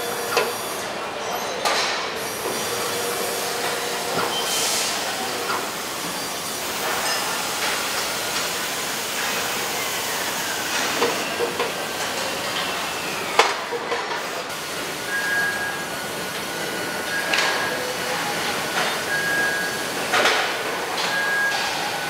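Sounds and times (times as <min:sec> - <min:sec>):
steady hiss of machinery: 0:01.9 - 0:22.0.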